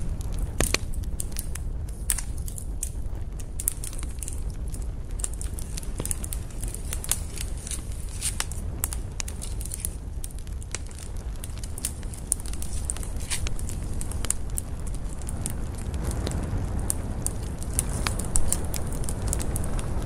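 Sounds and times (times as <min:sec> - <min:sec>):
campfire crackling and popping: 0:00.0 - 0:20.0
fire low rumble: 0:00.0 - 0:20.0.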